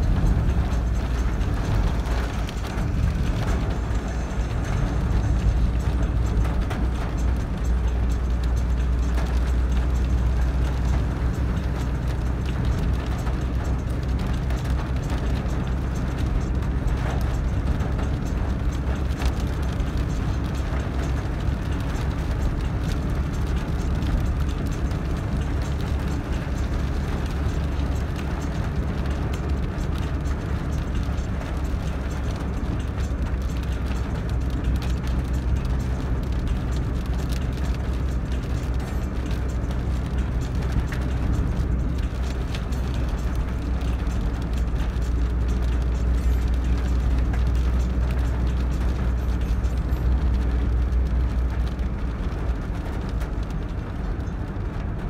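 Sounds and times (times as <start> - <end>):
tyres on wet road: 0.0 - 55.0
vehicle engine rumble: 0.0 - 55.0.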